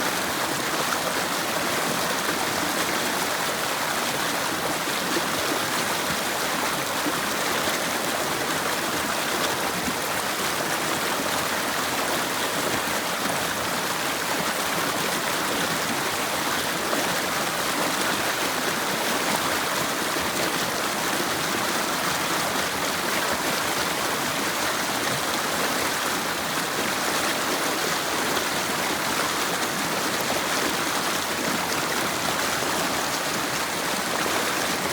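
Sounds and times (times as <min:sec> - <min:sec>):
river water rushing over rocks: 0:00.0 - 0:34.9.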